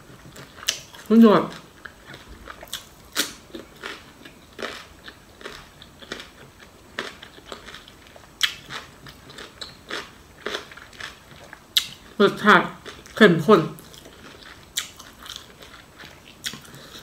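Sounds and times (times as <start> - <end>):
crisp crunching while chewing: 0.4 - 12.1, 13.8 - 17.0.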